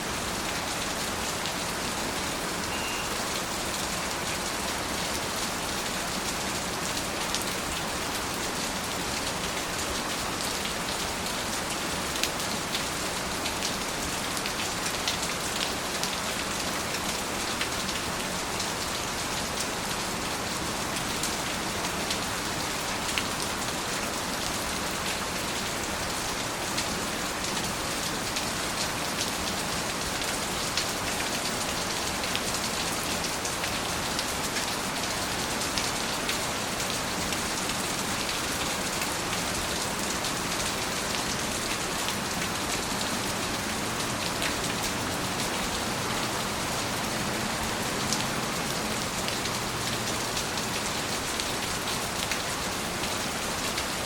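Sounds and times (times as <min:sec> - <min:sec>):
steady rain on a surface: 0:00.0 - 0:54.0.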